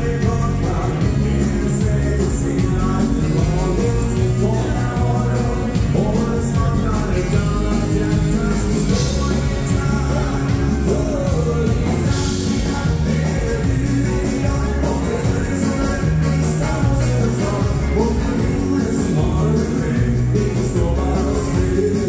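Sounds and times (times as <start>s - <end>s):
dance band playing: 0.0s - 22.0s
man singing: 0.0s - 22.0s.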